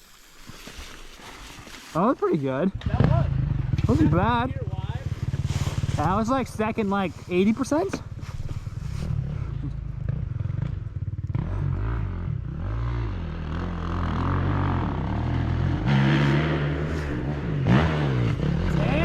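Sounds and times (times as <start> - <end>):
dirt bike engine revving: 2.0 - 19.0.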